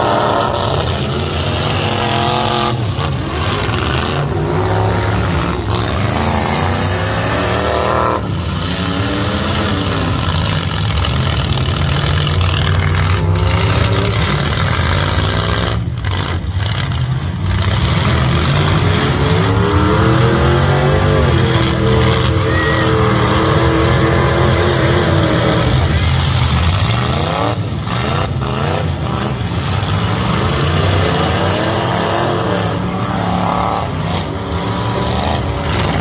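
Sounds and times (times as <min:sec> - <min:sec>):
truck engines revving: 0:00.0 - 0:36.0.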